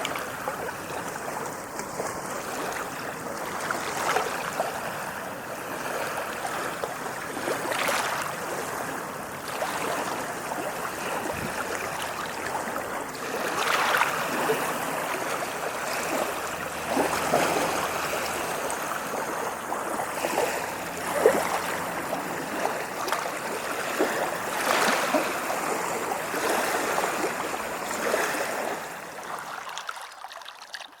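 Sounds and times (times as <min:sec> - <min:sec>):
ocean waves lapping on shore: 0:00.0 - 0:31.0.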